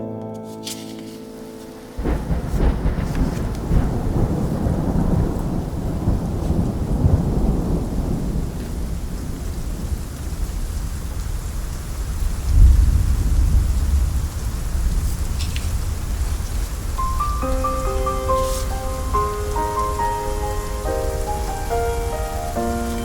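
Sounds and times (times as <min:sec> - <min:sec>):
steady rain: 0:01.4 - 0:23.0
rolling thunder: 0:01.9 - 0:23.0.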